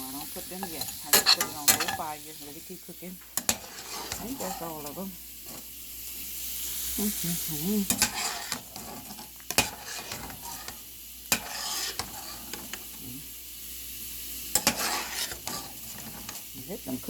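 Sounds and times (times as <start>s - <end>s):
food sizzling in a pot: 0.0s - 17.0s.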